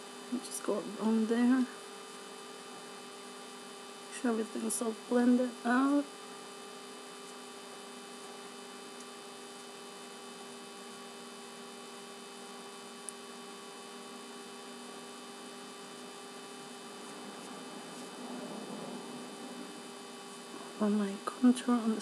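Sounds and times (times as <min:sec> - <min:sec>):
electrical hum: 0:00.0 - 0:22.0
faint hiss: 0:00.0 - 0:22.0.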